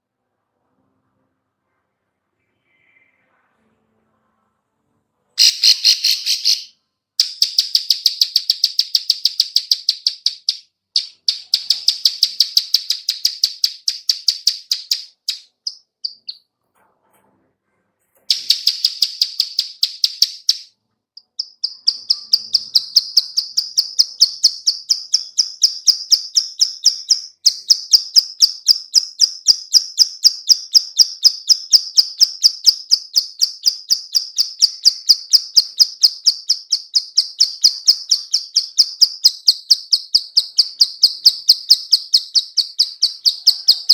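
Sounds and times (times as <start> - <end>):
bird clicking call: 5.4 - 16.4, 18.3 - 43.9.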